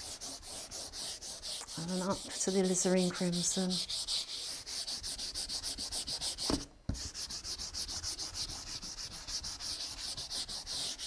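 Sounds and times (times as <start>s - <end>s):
palm swishing on paper: 0.0s - 11.0s.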